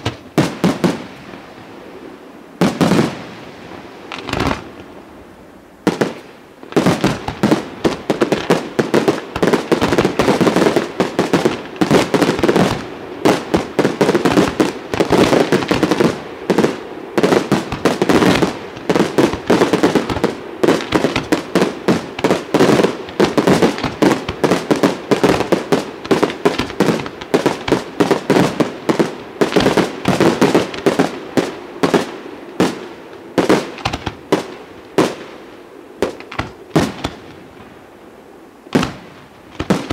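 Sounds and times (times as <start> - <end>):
fireworks bangs: 0.0 - 1.7, 2.6 - 5.0, 5.8 - 35.4, 36.0 - 37.9, 38.7 - 39.9.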